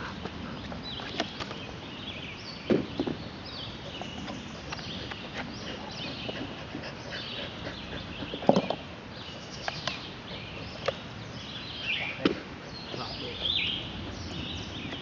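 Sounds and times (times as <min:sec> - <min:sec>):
birds singing: 0:00.0 - 0:15.0
outdoor hiss: 0:00.0 - 0:15.0.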